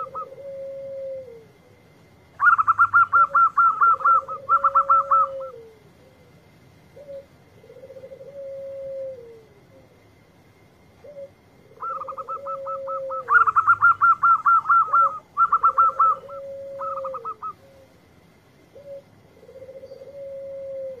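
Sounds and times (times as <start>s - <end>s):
dove cooing: 0.0s - 10.2s, 10.9s - 21.0s.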